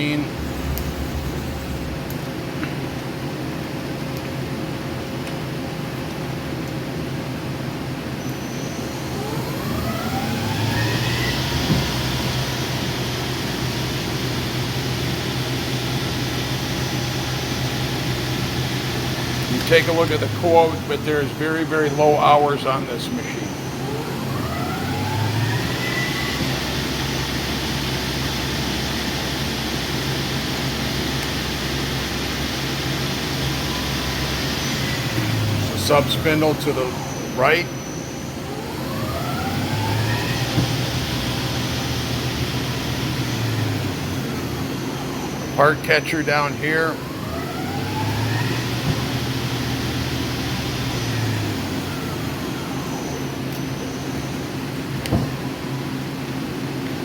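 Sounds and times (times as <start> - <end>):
lathe machine whirring: 0.0 - 4.7, 7.5 - 57.0.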